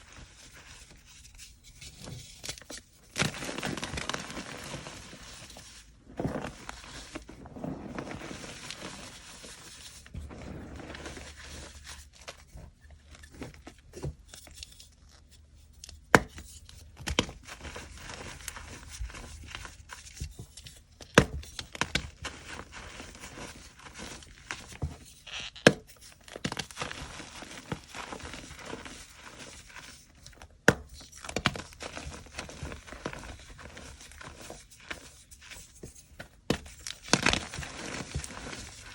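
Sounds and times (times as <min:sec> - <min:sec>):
chalk crunching and crumbling: 0:00.0 - 0:38.9.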